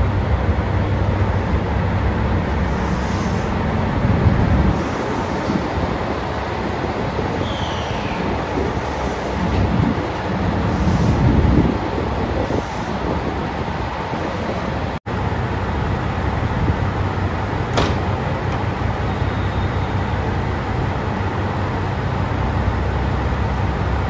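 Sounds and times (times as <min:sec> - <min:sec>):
diesel railcar engine idling: 0:00.0 - 0:24.0.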